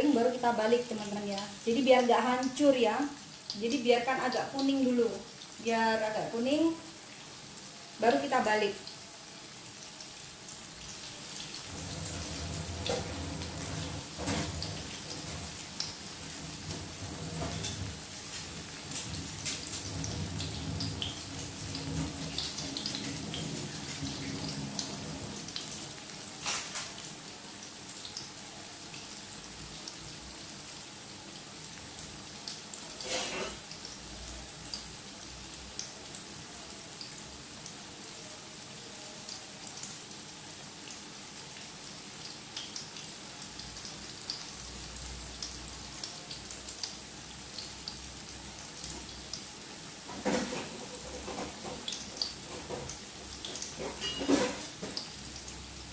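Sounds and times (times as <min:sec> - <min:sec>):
food sizzling in hot oil: 0:00.0 - 0:55.9.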